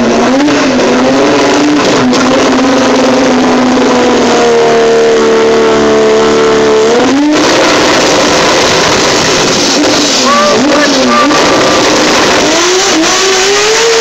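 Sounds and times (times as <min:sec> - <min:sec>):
car engine revving high: 0:00.0 - 0:14.0.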